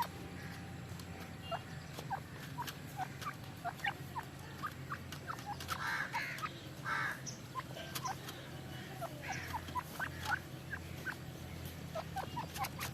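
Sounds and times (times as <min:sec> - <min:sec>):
buzzy bird calls: 0:00.0 - 0:12.9
francolins chirping: 0:00.0 - 0:12.9.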